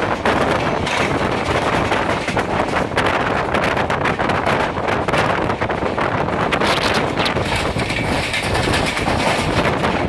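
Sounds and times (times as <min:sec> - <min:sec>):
train running on rails: 0:00.0 - 0:10.0
wind buffeting microphone: 0:00.0 - 0:10.0.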